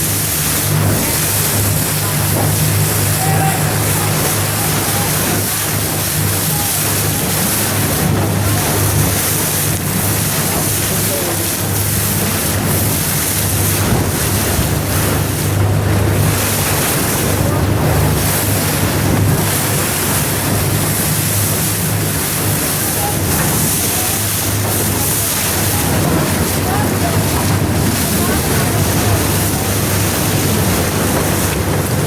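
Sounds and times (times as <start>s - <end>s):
boat motor humming: 0.0s - 32.0s
waves rushing against hull: 0.0s - 32.0s.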